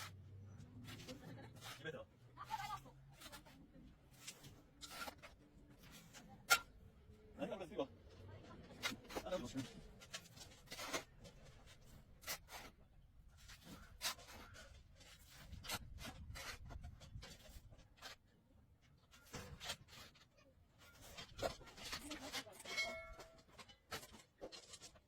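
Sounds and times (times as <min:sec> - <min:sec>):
faint scraping and tapping: 0:00.1 - 0:07.2, 0:07.9 - 0:25.0.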